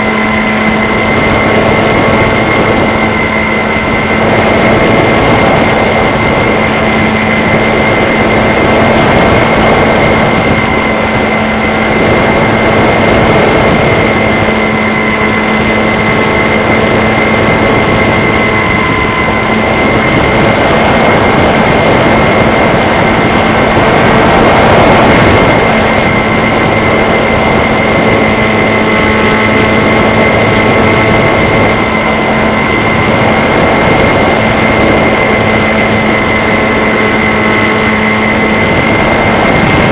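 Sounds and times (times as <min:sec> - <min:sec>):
model airplane motor whining: 0:00.0 - 0:39.9.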